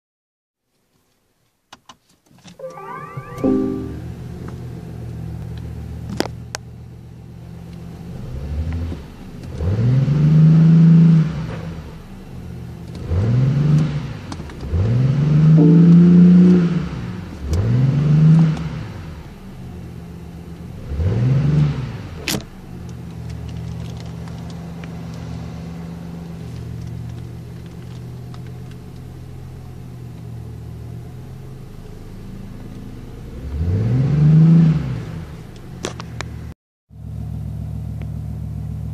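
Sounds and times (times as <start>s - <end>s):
car engine idling and revving: 4.0s - 38.9s.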